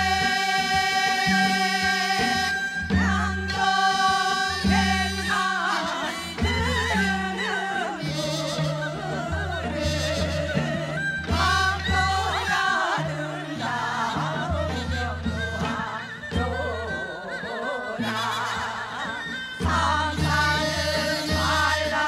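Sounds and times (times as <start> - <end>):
instrumental backing with bass: 0.0 - 22.0
women singing folk song: 0.0 - 22.0.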